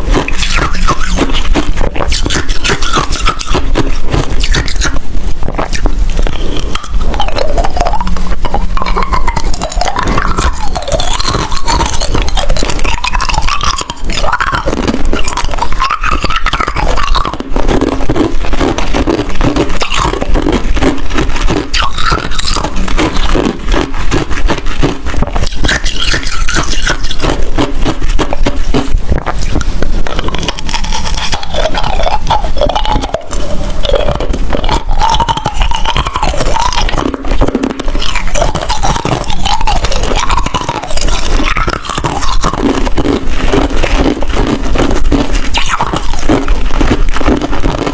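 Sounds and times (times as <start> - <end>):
person chewing ice: 0.0 - 47.9.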